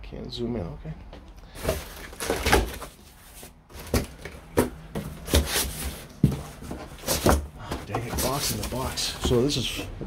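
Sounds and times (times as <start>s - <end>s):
knocks and clatters of handling: 1.5s - 10.0s.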